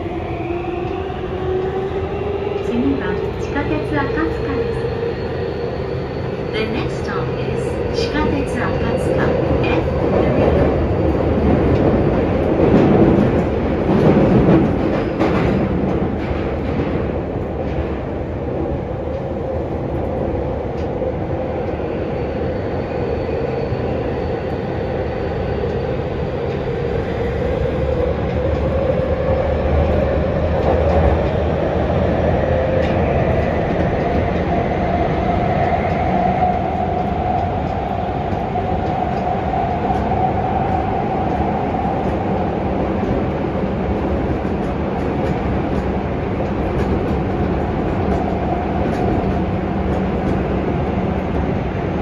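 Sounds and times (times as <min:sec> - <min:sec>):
train wheel and rail rumble: 0:00.0 - 0:52.0.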